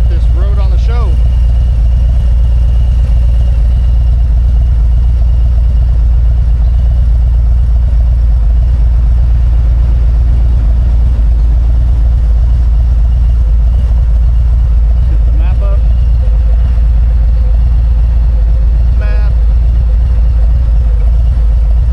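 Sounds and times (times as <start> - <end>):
motorcycle engine rumbling: 0.0 - 21.9.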